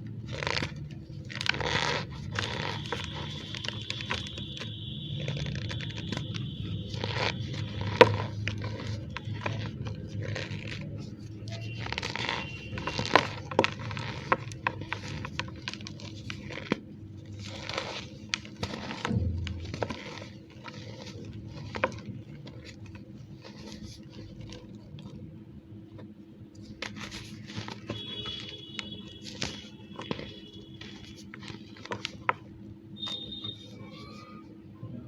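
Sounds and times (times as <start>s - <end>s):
chalk crumbling by hand: 0.0s - 25.2s, 25.9s - 34.4s.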